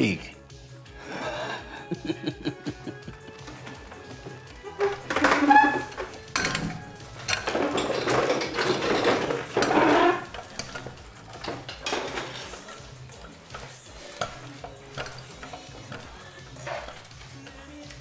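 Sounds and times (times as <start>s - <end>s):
clattering and scraping: 2.4s - 18.0s.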